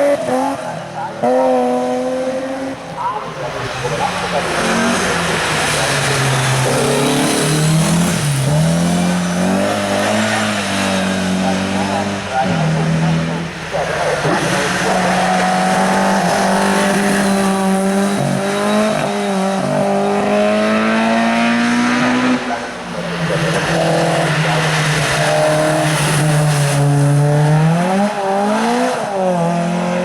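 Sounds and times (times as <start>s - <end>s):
race car engine revving: 0.0s - 30.0s.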